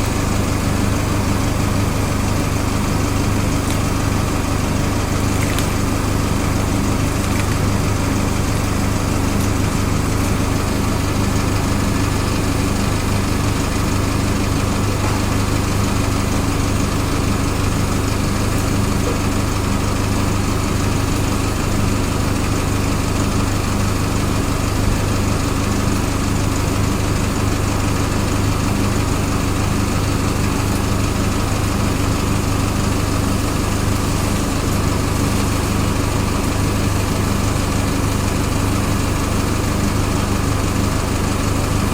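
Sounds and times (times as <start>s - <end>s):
mechanical hum with low drone: 0.0s - 41.9s.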